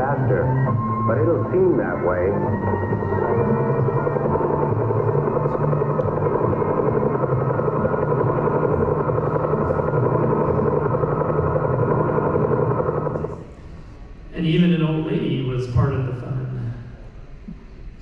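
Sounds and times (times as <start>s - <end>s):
aircraft noise over loudspeakers: 0.0s - 17.1s.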